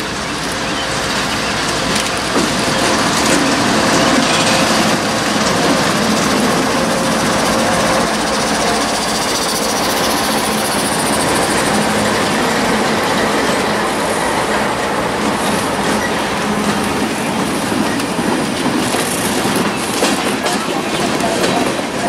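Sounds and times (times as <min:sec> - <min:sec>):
tank cars rolling past: 0:00.0 - 0:21.8
diesel locomotives passing: 0:00.0 - 0:22.0
wheels clicking over rail joints: 0:00.0 - 0:22.0.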